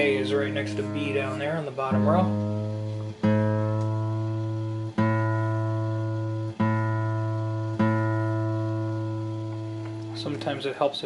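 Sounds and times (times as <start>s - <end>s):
guitar string plucked and ringing: 0.0s - 10.3s.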